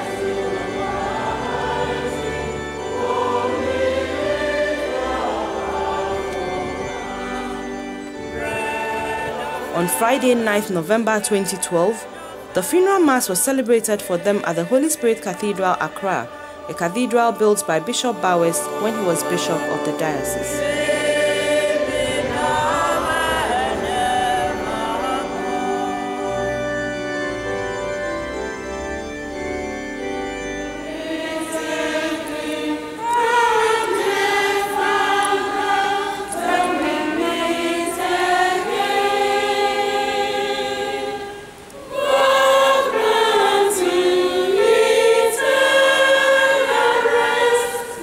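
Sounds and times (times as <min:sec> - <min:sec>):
choir singing church music: 0:00.0 - 0:48.0.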